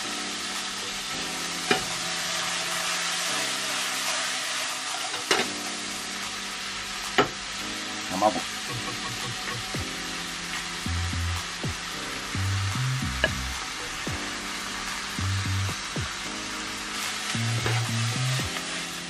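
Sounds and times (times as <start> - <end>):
meat sizzling in a frying pan: 0.0 - 19.0.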